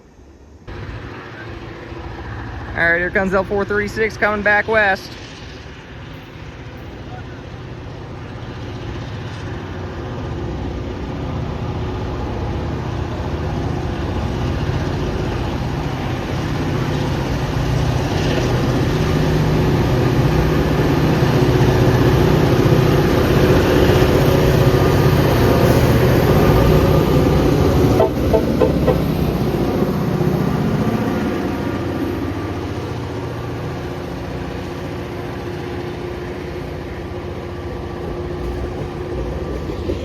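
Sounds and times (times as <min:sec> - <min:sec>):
diesel locomotive engine drone: 0:00.0 - 0:40.0.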